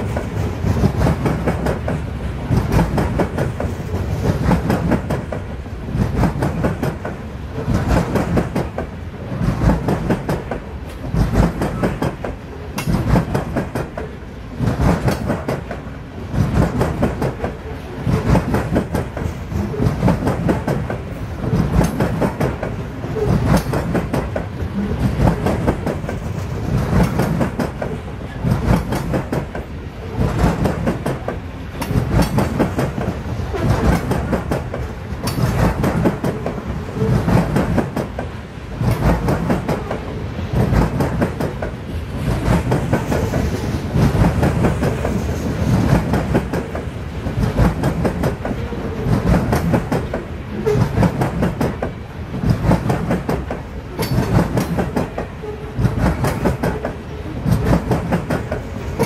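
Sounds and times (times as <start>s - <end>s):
steel wheels rumbling on rail: 0.0s - 59.0s
wheels clacking over rail joints: 0.0s - 59.0s.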